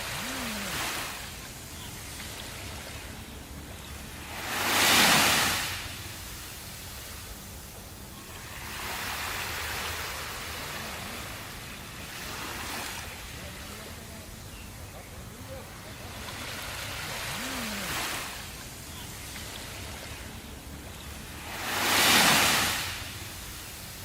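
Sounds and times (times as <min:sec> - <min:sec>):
sea waves breaking: 0:00.0 - 0:24.0
steady surf hiss: 0:00.0 - 0:24.0.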